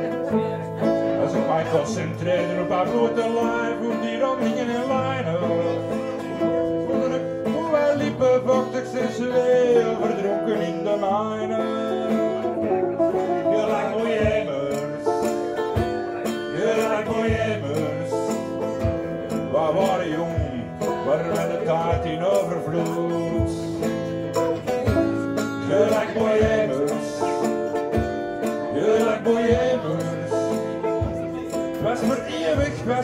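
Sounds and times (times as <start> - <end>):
acoustic guitars strumming: 0.0 - 33.0
guitar melody line: 0.0 - 33.0.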